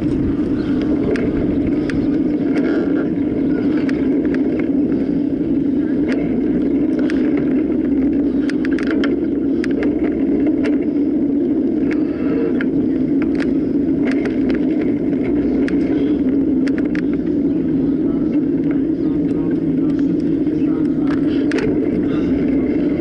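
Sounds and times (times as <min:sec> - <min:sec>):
bike rattling over bumps: 0:00.0 - 0:23.0
bike rushing over rough ground: 0:00.0 - 0:23.0.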